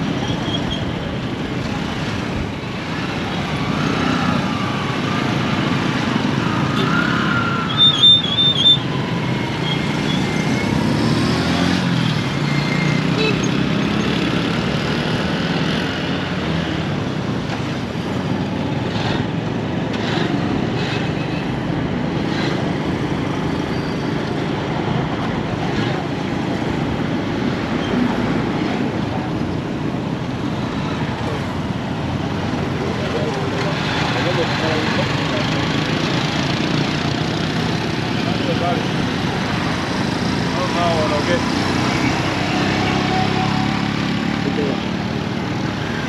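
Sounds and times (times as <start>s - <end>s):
road traffic passing: 0.0s - 46.0s.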